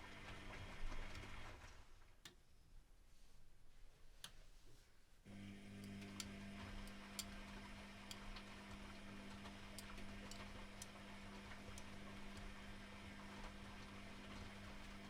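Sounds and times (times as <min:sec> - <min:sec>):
washing machine hum: 0:00.0 - 0:03.4, 0:05.2 - 0:15.0.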